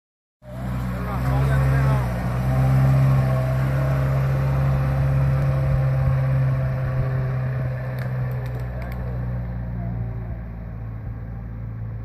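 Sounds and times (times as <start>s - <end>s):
truck engine running at low speed: 0.4s - 12.0s.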